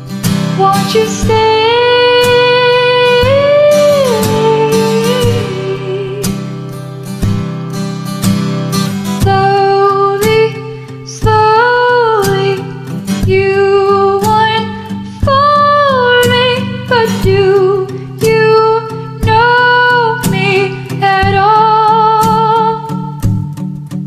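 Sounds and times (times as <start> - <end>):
karaoke backing track with guitar: 0.0 - 24.0
woman singing with vibrato: 0.4 - 6.8, 9.2 - 23.6.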